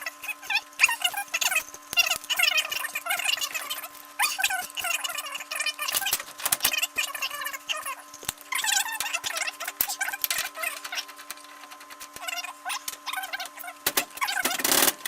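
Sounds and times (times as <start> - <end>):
sped-up high-pitched voice chatter: 0.0 - 11.2, 12.2 - 14.6.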